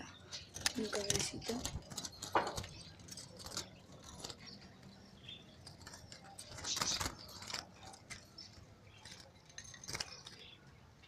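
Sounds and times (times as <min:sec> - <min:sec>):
small birds chirping: 0:00.0 - 0:11.0
scratchy rustling in cage: 0:00.4 - 0:04.8, 0:05.6 - 0:10.4.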